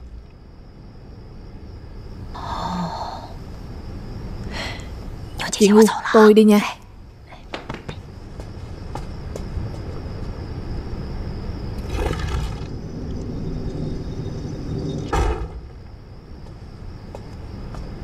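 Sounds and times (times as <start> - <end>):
steady low rumble: 0.0 - 5.4, 8.0 - 18.0.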